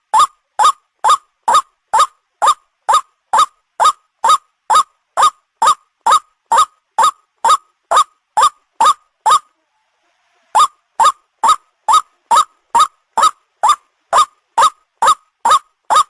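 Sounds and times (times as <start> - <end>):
waterhen calling: 0.0 - 9.6, 10.4 - 16.0.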